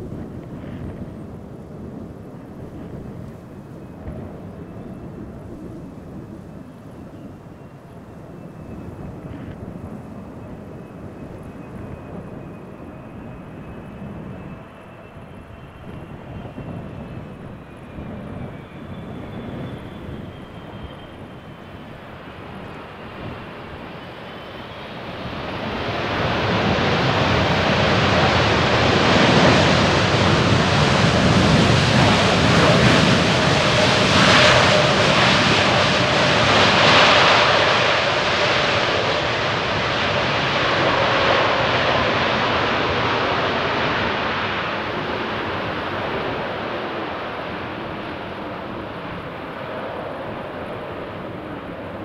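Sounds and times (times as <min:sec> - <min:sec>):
jet airliner roar: 0:00.0 - 0:52.0.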